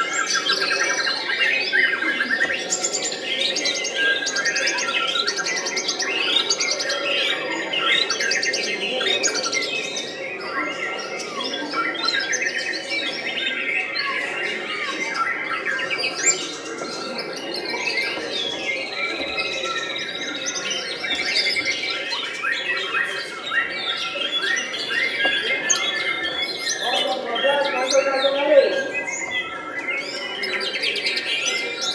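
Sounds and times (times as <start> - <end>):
songbirds singing: 0.0 - 31.9.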